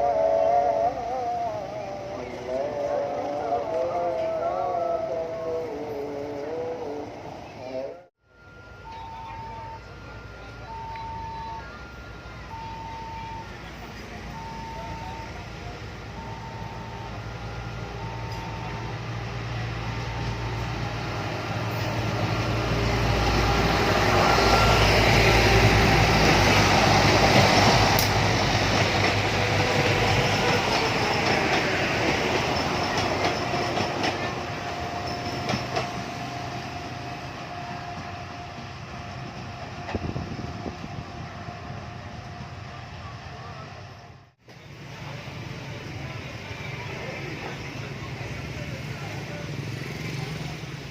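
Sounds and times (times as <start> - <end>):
train rumbling past: 0.0 - 50.9.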